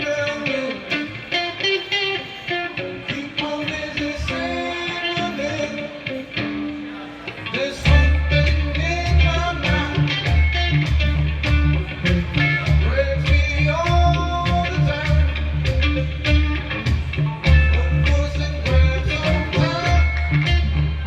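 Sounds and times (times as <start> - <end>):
live rock music: 0.0 - 21.0.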